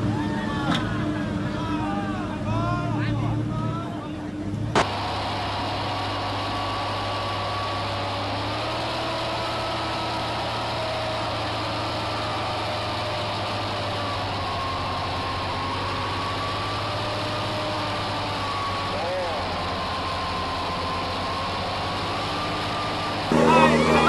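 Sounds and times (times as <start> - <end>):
tractor engine droning: 0.0 - 24.0.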